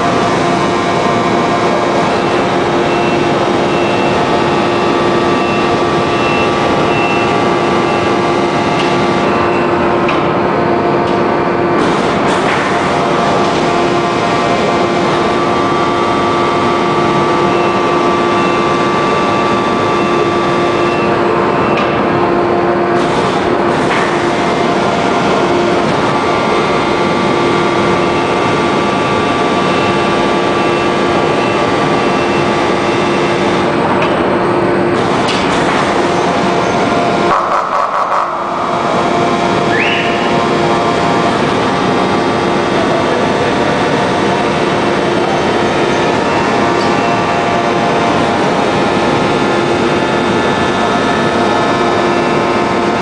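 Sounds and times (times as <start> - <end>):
constant hum: 0.0 - 53.0.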